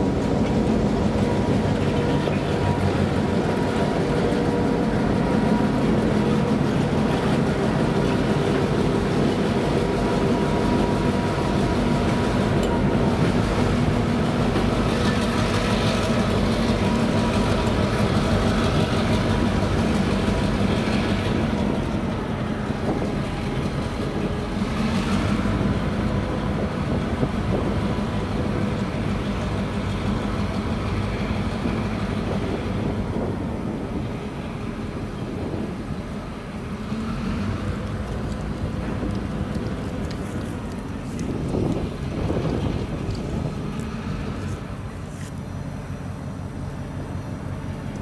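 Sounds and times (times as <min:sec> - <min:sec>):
diesel locomotive engine running: 0:00.0 - 0:48.0.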